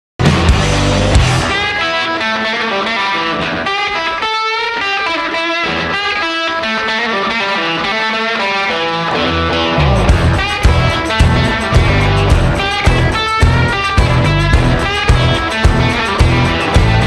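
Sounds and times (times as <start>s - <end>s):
distorted electric guitar riff: 0.2s - 17.0s
rock music: 0.2s - 17.0s.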